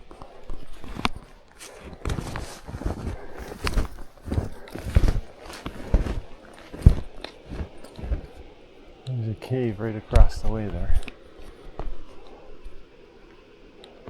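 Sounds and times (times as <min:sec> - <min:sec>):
snowshoe footsteps crunching snow: 0:00.0 - 0:14.0.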